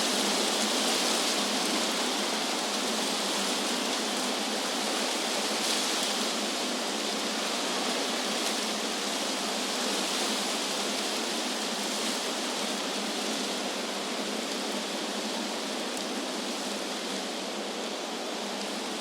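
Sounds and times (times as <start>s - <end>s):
wind rustling leaves: 0.0s - 19.0s.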